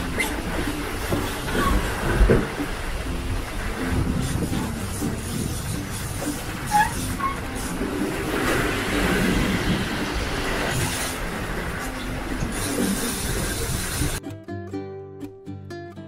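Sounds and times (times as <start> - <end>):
sea noise: 0.0 - 14.2
wind: 0.0 - 14.4
acoustic guitar music: 0.0 - 16.0.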